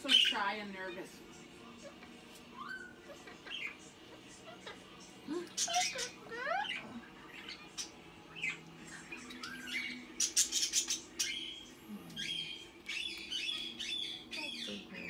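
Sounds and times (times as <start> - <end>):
parrots squawking and chirping: 0.0 - 15.0.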